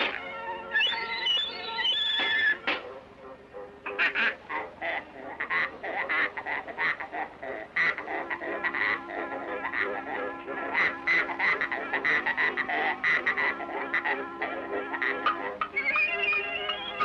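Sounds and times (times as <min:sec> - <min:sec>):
cartoon pig squawking notes: 0:00.0 - 0:02.8, 0:03.8 - 0:17.0.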